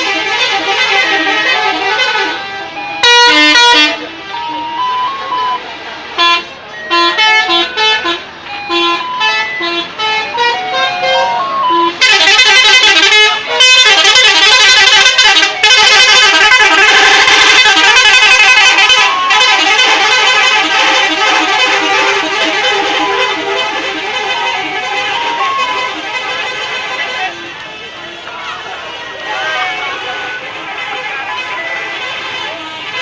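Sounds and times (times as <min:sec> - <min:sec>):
multi-tone musical air horns: 0:00.0 - 0:28.3, 0:29.3 - 0:33.0.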